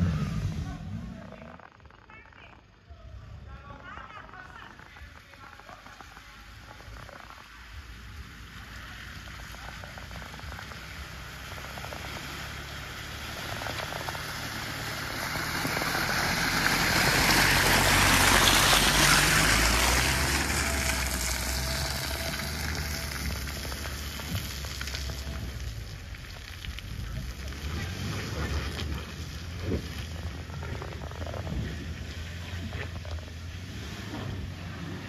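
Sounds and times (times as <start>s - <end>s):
low engine rumble: 0.0s - 35.0s
tyres hissing on wet mud: 4.3s - 35.0s.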